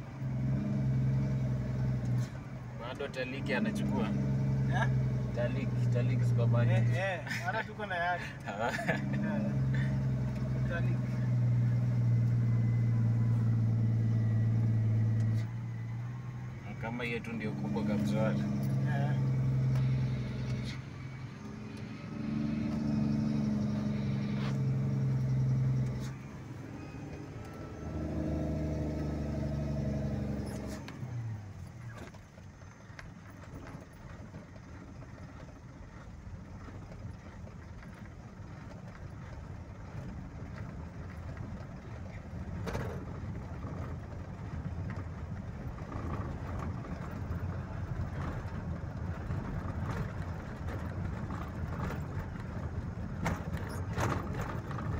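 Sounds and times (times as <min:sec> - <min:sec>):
tyre and road noise: 0:00.0 - 0:54.9
vehicle engine droning: 0:00.0 - 0:54.9.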